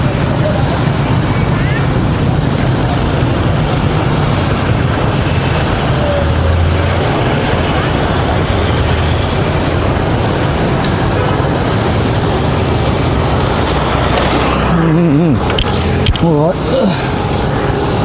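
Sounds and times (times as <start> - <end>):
road traffic rumbling: 0.0 - 18.0.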